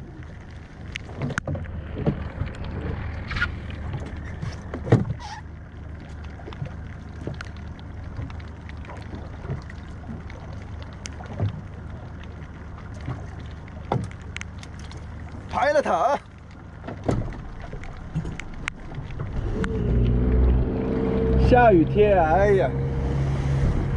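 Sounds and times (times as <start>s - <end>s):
boat low rumble: 0.0s - 23.9s.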